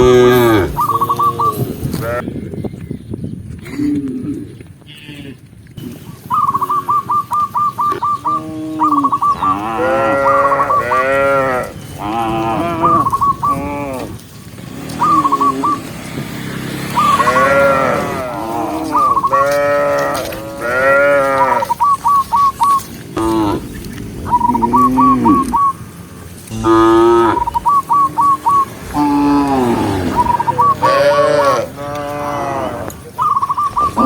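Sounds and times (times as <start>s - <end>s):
cattle mooing: 0.0s - 2.2s, 8.1s - 25.8s, 26.4s - 34.0s.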